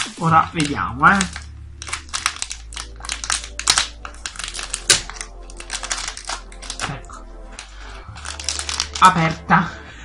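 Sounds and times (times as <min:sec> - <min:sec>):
wrapper crinkling and tearing: 0:00.0 - 0:09.5.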